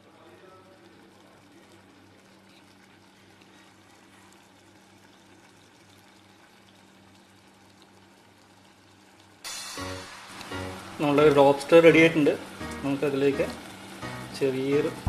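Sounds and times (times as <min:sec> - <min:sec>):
gravy bubbling in a pot: 0:00.0 - 0:15.0.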